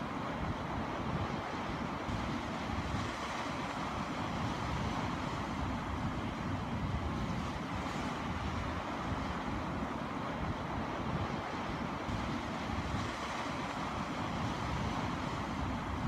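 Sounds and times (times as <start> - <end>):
wind buffeting microphone: 0.3 - 16.0.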